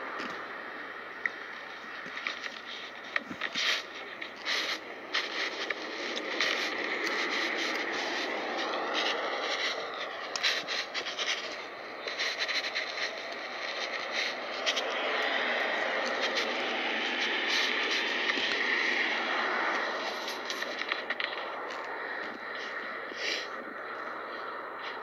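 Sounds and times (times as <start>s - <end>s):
phone rubbing against clothing: 1.5s - 25.0s
steady rushing background: 1.6s - 25.0s.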